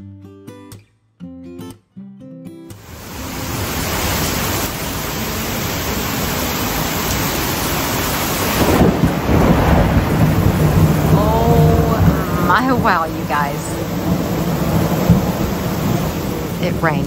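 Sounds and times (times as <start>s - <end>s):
heavy rain pouring: 2.8s - 17.0s.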